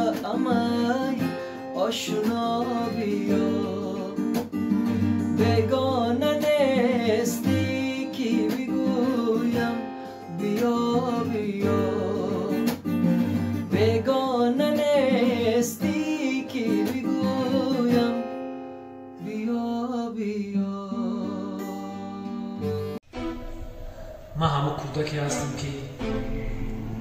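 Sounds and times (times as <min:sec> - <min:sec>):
man singing: 0:00.0 - 0:12.8, 0:13.6 - 0:18.3, 0:19.2 - 0:23.0, 0:24.6 - 0:27.0
acoustic guitar: 0:00.0 - 0:27.0.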